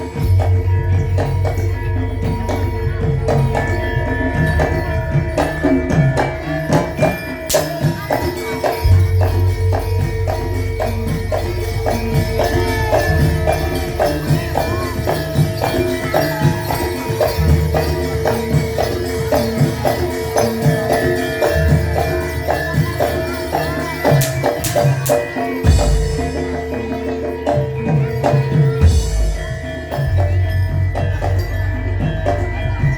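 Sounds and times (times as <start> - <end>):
quick percussion strokes: 0.0 - 32.9
ringing pitched tones: 0.0 - 32.9.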